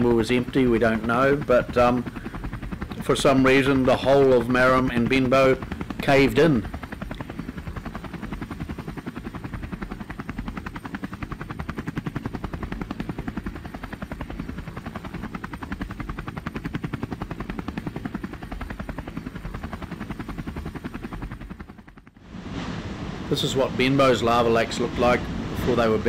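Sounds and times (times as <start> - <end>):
helicopter rotor chop: 0.0 - 26.0.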